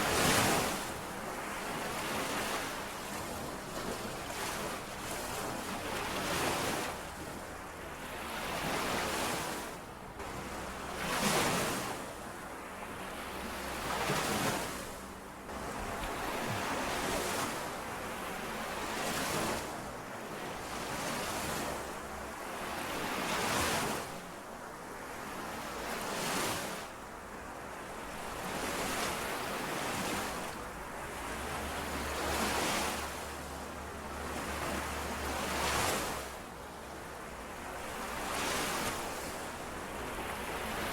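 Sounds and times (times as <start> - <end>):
lake waves washing on shore: 0.0 - 40.9.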